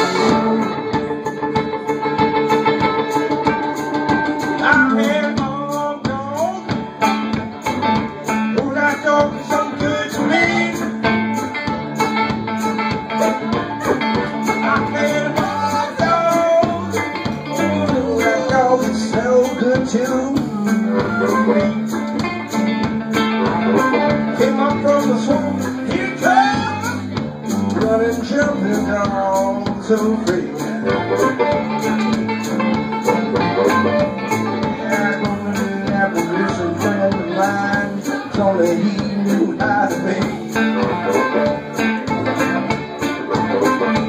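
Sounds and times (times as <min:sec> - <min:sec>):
harmonica: 0:00.0 - 0:28.8, 0:30.0 - 0:44.0
banjo: 0:00.0 - 0:44.0
drum kit: 0:00.0 - 0:44.0
electric guitar: 0:00.0 - 0:44.0.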